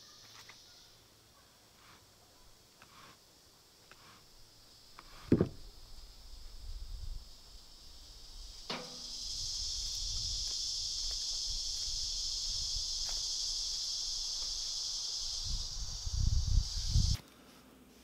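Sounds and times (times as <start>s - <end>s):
insect chorus drone: 0.0s - 17.2s.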